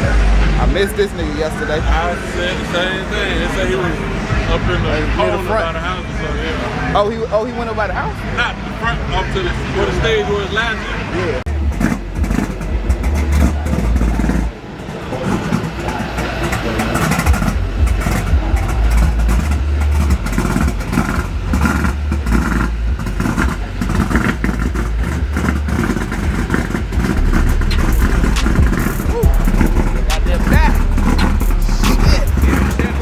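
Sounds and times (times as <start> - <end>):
motor vehicle rumble: 0.0 - 33.0.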